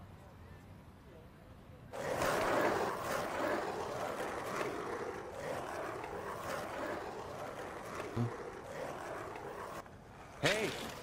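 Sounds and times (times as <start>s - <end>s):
skateboard rolling on cobblestones: 1.9s - 11.0s.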